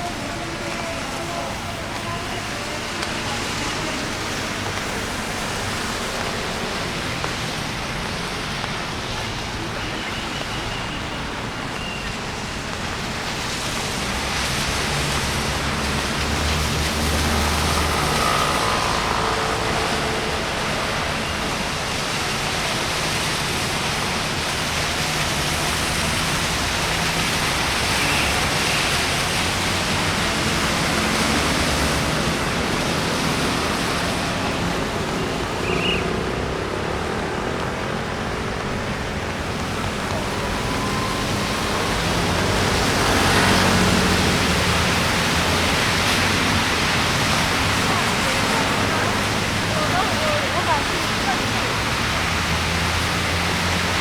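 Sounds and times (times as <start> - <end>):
rain on a street: 0.0 - 54.0
traffic passing: 0.0 - 54.0.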